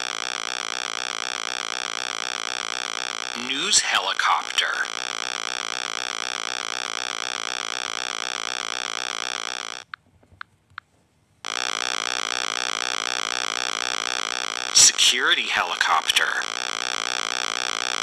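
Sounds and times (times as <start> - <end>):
synthesized helicopter rotor buzz: 0.0 - 9.8, 11.5 - 18.0.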